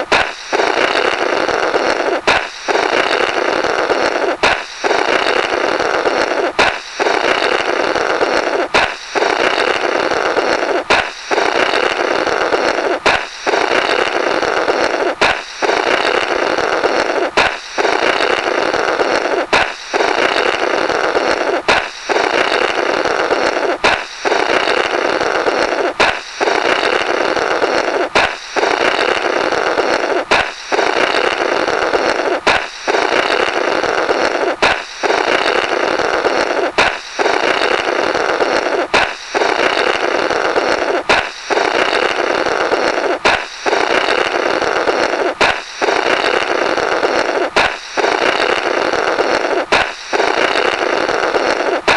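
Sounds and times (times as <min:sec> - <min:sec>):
balloon popping: 0:00.0 - 0:51.9
noisy blow through burst balloon: 0:00.0 - 0:51.9.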